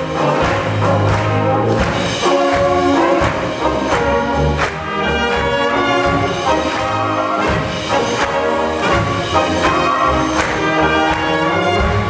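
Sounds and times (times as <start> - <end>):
brass band playing polka: 0.0 - 12.0.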